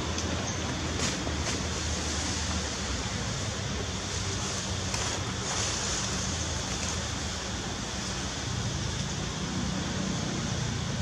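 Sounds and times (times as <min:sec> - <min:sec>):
high hiss: 0:00.0 - 0:11.0.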